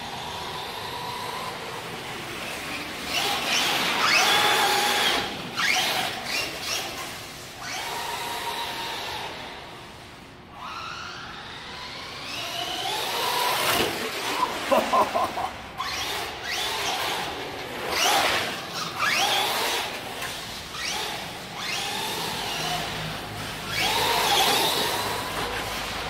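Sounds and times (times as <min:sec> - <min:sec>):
toy truck electric motors whining: 0:00.0 - 0:26.0.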